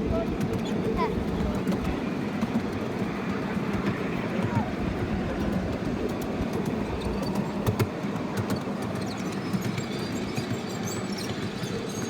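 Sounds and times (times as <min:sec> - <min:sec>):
miniature train rumbling: 0:00.0 - 0:12.0
wheels clicking over rail joints: 0:00.0 - 0:12.0.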